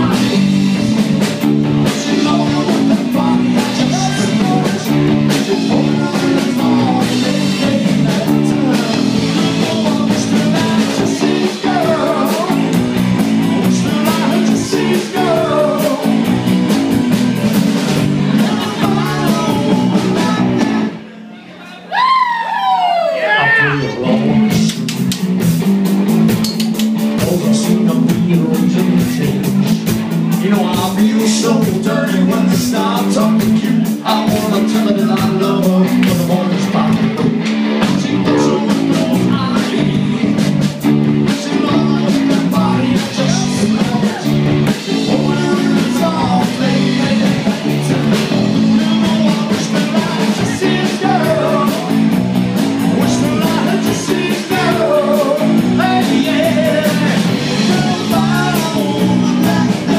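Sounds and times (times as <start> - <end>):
steady drum beat: 0.0 - 21.0, 24.3 - 59.9
electric guitars: 0.0 - 21.1, 23.5 - 59.9
live rock band: 0.0 - 21.1, 22.0 - 59.9
bass line: 0.0 - 21.2, 22.9 - 59.9.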